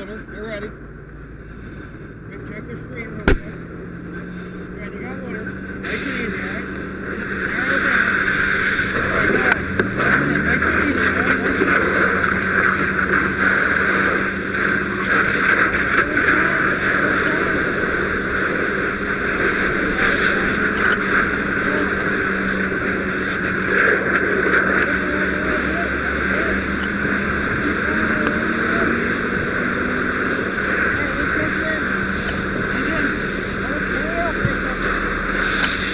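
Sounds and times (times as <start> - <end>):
fire engine pump drone: 0.0 - 35.9.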